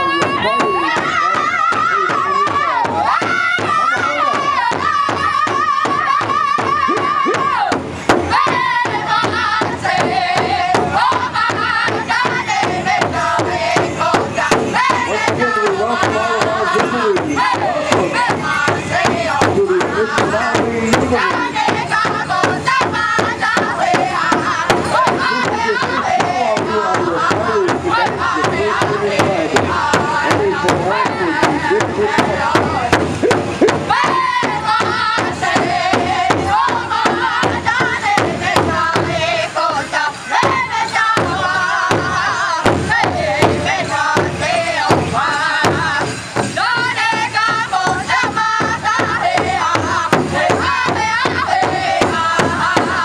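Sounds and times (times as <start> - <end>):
group singing high voices: 0.0 - 53.0
large drum beating steady pulse: 0.0 - 53.0.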